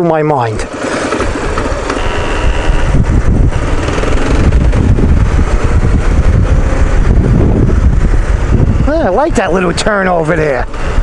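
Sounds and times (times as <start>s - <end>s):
motorcycle engine rumbling: 0.3s - 11.0s.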